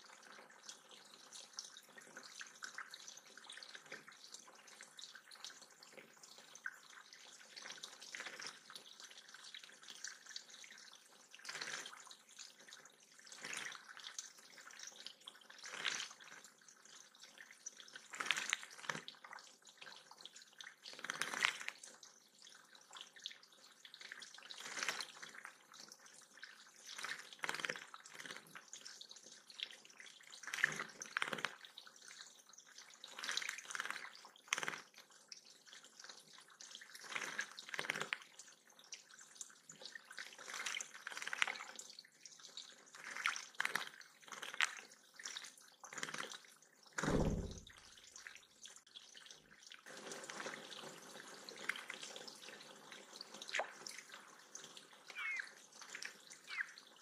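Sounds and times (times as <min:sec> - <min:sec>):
water splashes: 0:00.0 - 0:57.0
water trickling over rocks: 0:00.0 - 0:57.0
bird bathing and fluttering wings: 0:01.2 - 0:19.5, 0:20.5 - 0:22.0, 0:23.5 - 0:32.2, 0:32.8 - 0:38.3, 0:39.7 - 0:48.4, 0:49.2 - 0:57.0.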